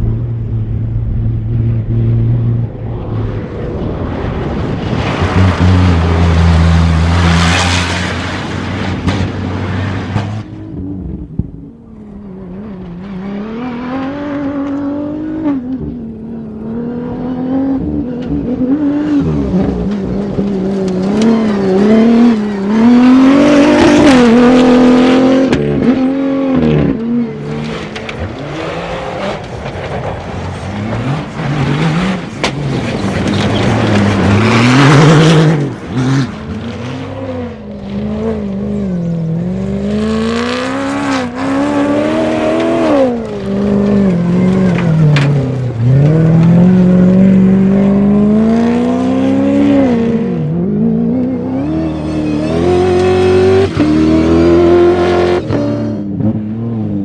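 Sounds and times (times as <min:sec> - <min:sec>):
vehicle engines revving: 0:00.0 - 0:57.0.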